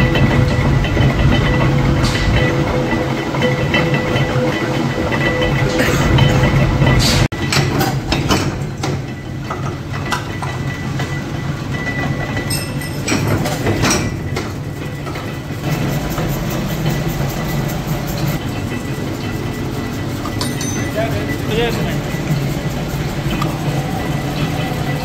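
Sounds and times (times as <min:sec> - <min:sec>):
machinery humming: 0:00.0 - 0:25.0
metallic clicks and clatter: 0:00.0 - 0:25.0.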